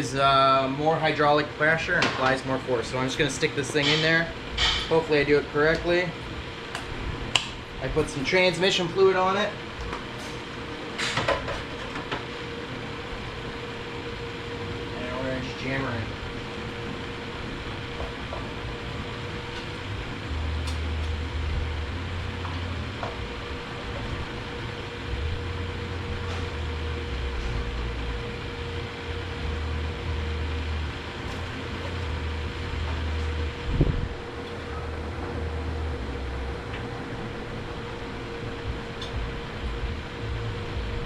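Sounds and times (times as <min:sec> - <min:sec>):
fan-like hum: 0:00.0 - 0:41.0
deep drone: 0:02.4 - 0:41.0.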